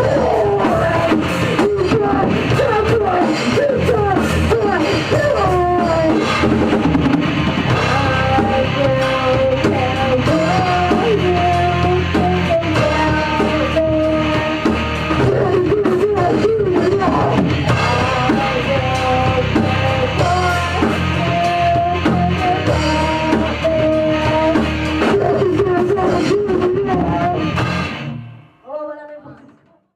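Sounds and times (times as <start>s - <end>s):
rock band playing: 0.0s - 29.8s.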